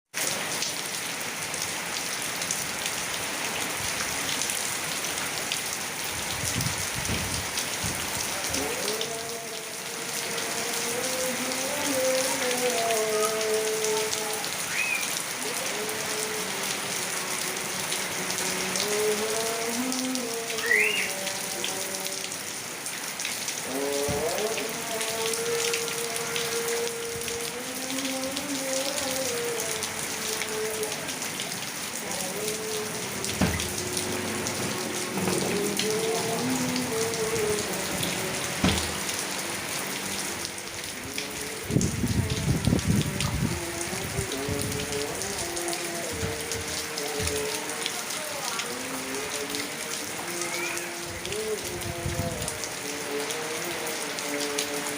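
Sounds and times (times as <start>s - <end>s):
heavy rain pouring: 0.1s - 54.9s.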